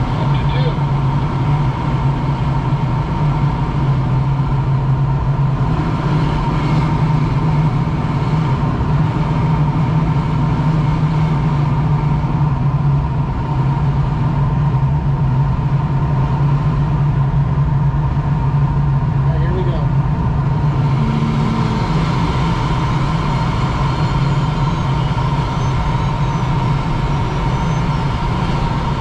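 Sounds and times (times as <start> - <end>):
constant low hum: 0.0 - 29.0.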